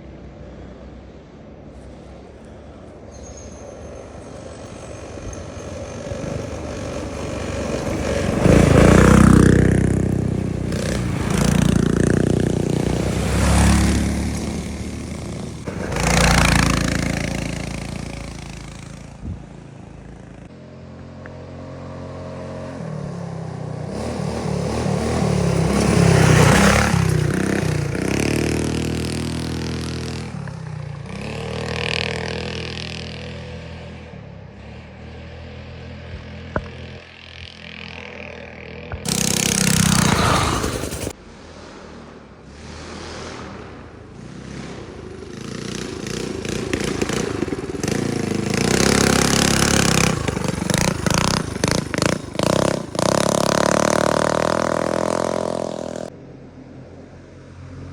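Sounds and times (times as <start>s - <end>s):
minibike engines passing by: 0.0s - 57.9s.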